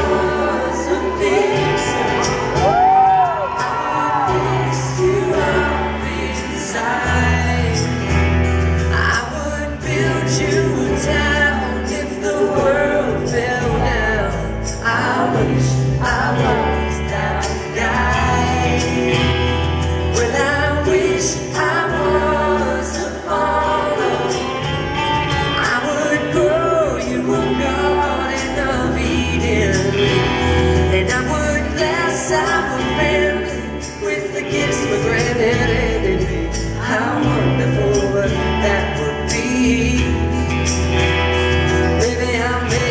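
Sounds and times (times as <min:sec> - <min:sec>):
acoustic guitar: 0:00.0 - 0:42.9
bass guitar: 0:00.0 - 0:42.9
man singing: 0:00.0 - 0:42.9.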